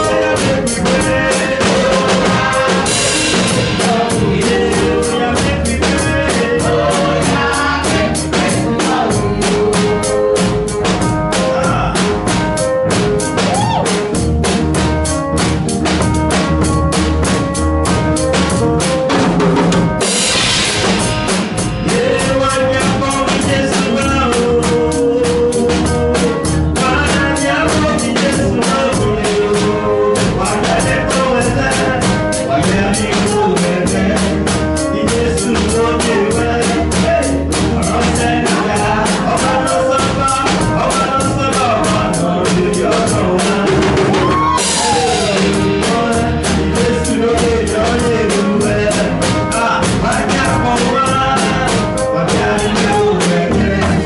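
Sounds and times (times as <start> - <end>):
church band playing gospel: 0.0 - 54.0
drum kit beat: 0.0 - 54.0.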